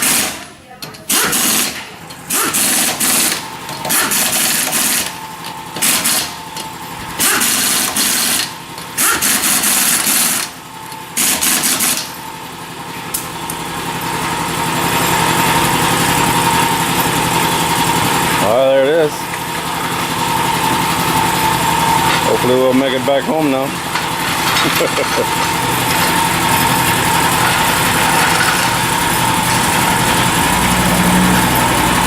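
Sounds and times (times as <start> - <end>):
impact wrench bursts: 0.0 - 32.0
vehicle engine running: 0.0 - 32.0.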